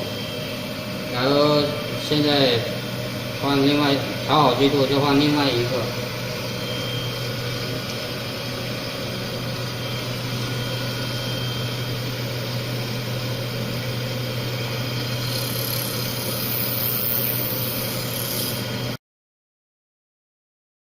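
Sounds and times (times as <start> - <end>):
grinder motor humming: 0.0 - 19.0.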